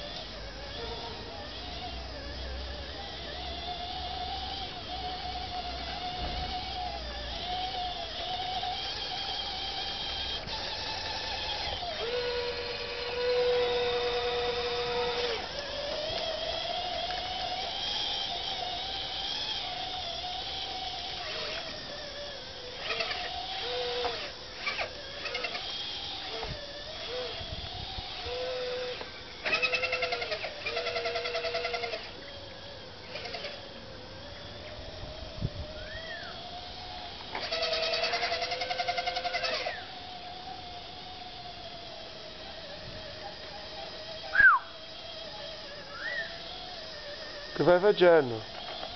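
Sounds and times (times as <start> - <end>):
model bulldozer motors whining: 0.0 - 48.9
rapid buzzing rattle: 0.0 - 48.9.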